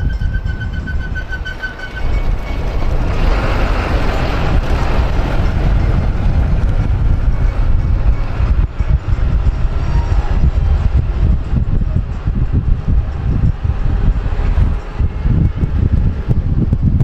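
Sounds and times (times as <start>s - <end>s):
rushing noise: 0.0s - 17.0s
vehicle driving rumble: 0.0s - 17.0s.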